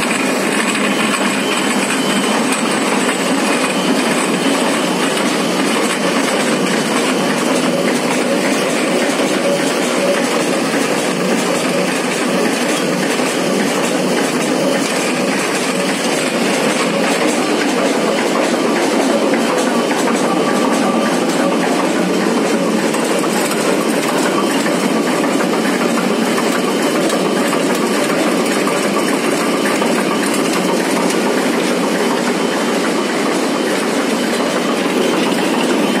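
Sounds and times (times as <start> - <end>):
dense mechanical clatter of mill: 0.0 - 36.0.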